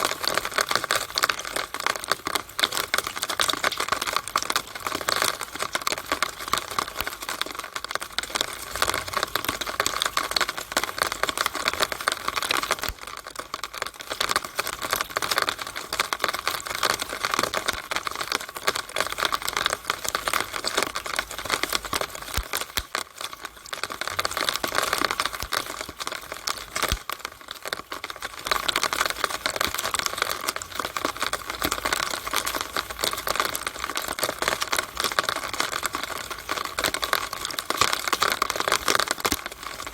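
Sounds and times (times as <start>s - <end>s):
rainwater running through downspout: 0.0s - 39.9s.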